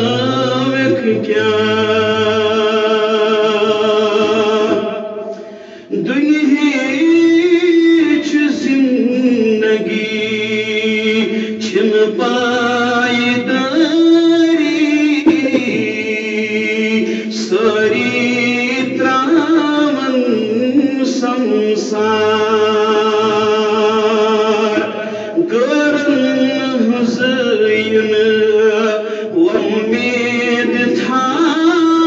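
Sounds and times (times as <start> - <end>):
man singing unaccompanied: 0.0 - 5.3, 5.9 - 32.0.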